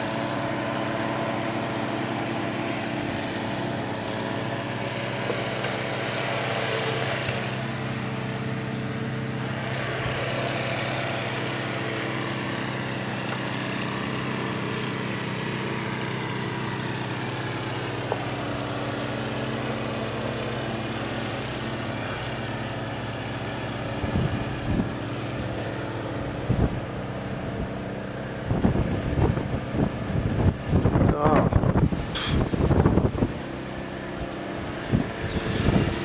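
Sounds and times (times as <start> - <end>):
snowblower engine running: 0.0 - 36.0.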